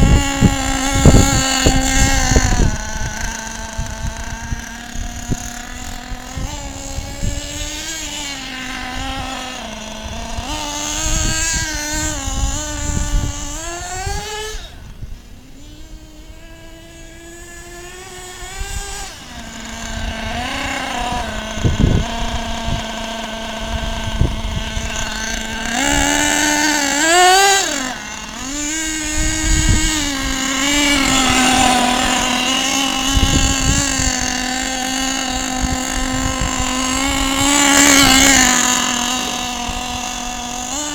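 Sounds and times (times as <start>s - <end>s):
small nitro engine revving: 0.0s - 40.9s.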